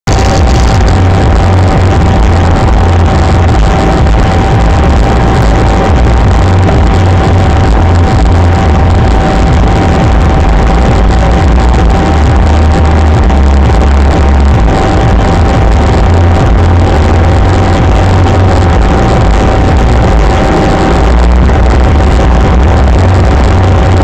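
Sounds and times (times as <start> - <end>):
car road and engine rumble: 0.0 - 24.0
thin whine: 0.0 - 24.0.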